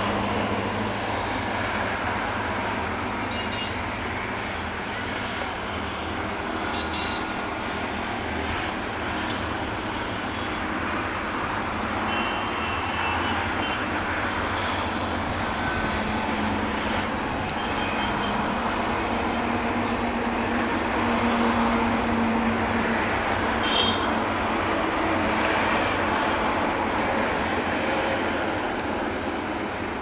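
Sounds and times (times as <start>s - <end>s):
road traffic rumble: 0.0s - 30.0s
train running: 0.0s - 30.0s.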